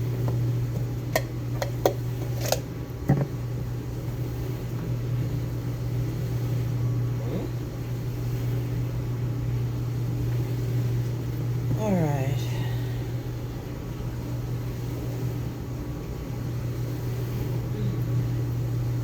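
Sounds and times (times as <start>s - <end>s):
appliance humming: 0.0s - 19.0s.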